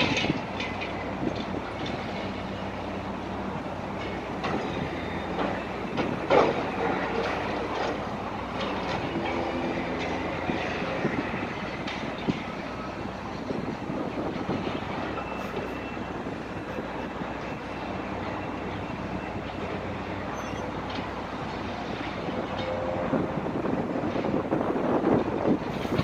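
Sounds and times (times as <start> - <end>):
excavator engine drone: 0.0 - 26.0.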